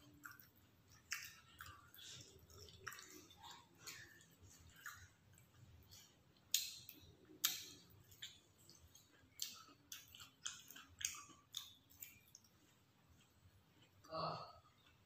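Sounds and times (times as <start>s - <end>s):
chewing mouth clicks and smacks: 0.0s - 14.1s.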